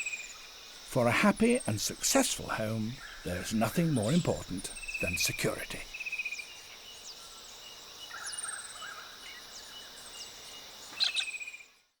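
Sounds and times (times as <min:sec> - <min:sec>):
high insect trill: 0:00.0 - 0:11.8.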